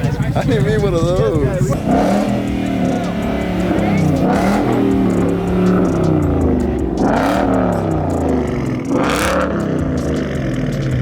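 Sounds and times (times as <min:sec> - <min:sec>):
vehicle engines revving: 0:00.0 - 0:11.0.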